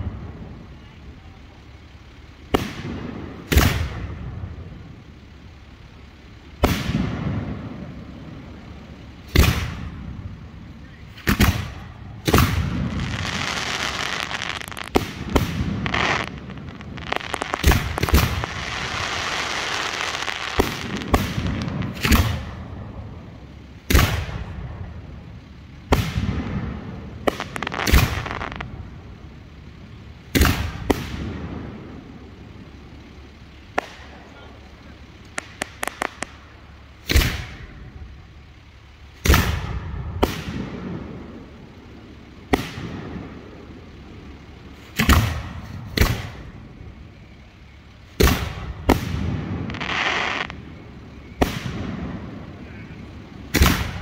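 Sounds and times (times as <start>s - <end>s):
steady hiss: 0.0s - 54.0s
fireworks booming: 2.2s - 47.3s, 48.1s - 54.0s.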